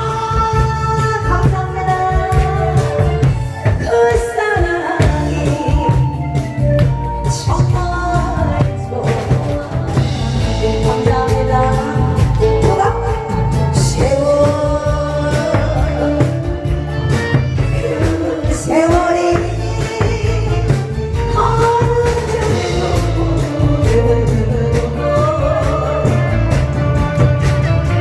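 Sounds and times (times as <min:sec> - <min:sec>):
backing track with heavy bass beat: 0:00.0 - 0:28.0
person singing: 0:00.0 - 0:28.0.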